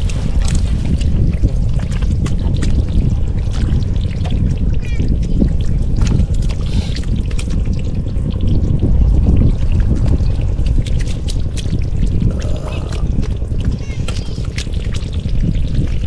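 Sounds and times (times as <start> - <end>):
heavy low rumble: 0.0 - 16.0
water splashing and trickling: 0.0 - 16.0.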